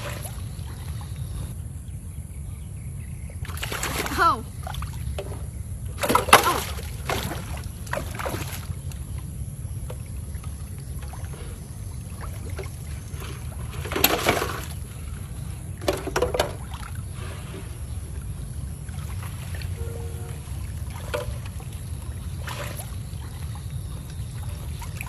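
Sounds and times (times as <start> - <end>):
water splashing: 0.0 - 1.5, 3.3 - 25.0
steady low rumble: 0.0 - 3.8, 4.4 - 6.0, 6.6 - 25.0.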